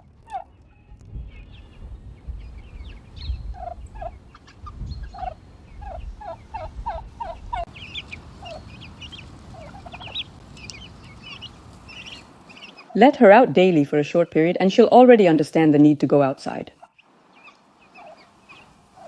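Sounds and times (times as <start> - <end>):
turkeys yelping: 0.0 - 1.8, 2.4 - 14.0, 16.5 - 19.0.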